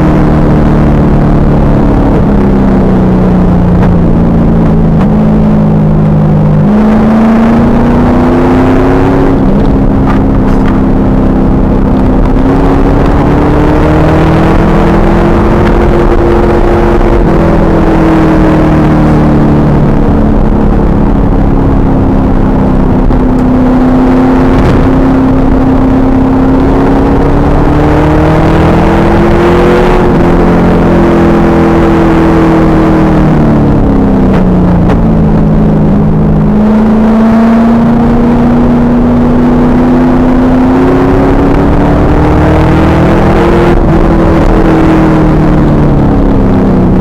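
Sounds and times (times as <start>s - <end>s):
car engine running hard: 0.0s - 47.0s.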